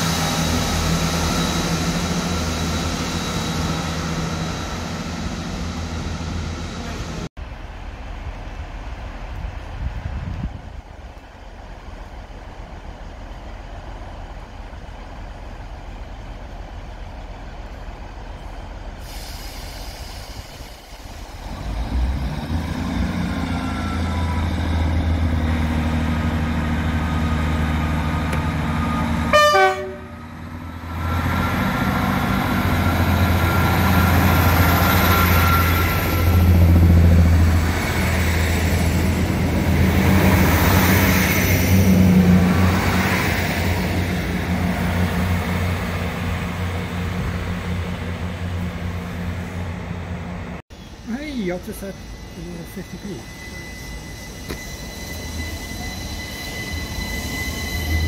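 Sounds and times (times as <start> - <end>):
diesel train engines humming: 0.0 - 58.0.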